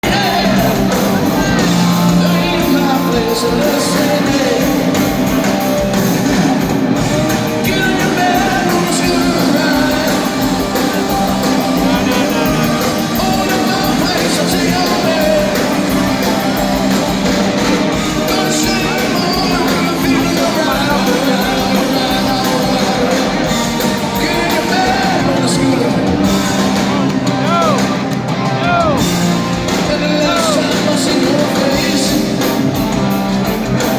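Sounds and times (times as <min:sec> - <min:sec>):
person singing: 0:00.0 - 0:27.9, 0:28.5 - 0:32.9
live rock band: 0:00.0 - 0:33.9.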